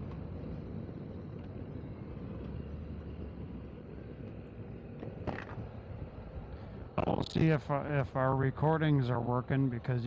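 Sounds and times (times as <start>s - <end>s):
wind rumble: 0.0s - 10.0s.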